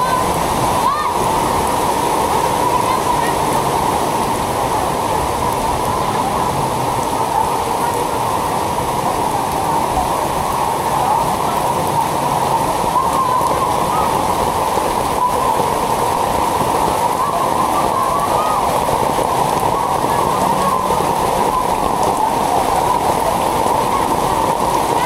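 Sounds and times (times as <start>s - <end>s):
heavy rain on floodwater: 0.0s - 25.0s.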